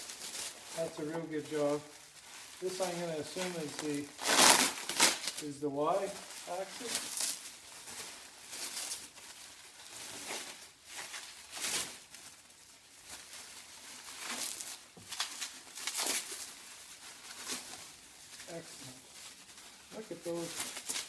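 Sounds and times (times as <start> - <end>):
packaging rustling and crinkling: 0.0 - 21.0.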